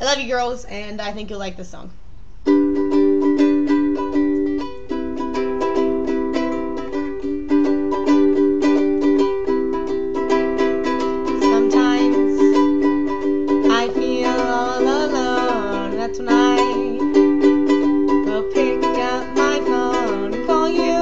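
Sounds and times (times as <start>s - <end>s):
ukulele strumming: 2.4s - 21.0s.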